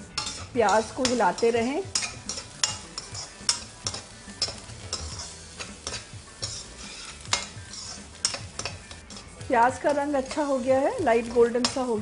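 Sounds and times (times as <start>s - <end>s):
metal ladle scraping a pan: 0.0s - 12.0s
onions sizzling in hot oil: 0.0s - 12.0s.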